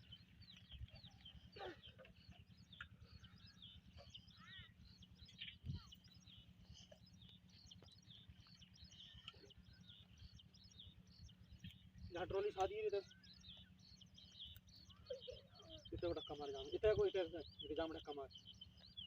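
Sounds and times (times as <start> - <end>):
faint birdsong: 0.0 - 19.0
low pulsing rumble: 0.0 - 19.0.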